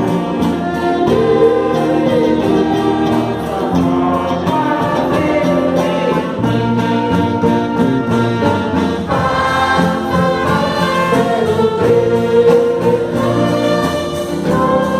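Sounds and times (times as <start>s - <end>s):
choir singing: 0.0s - 14.9s
orchestra with brass playing: 0.0s - 14.9s.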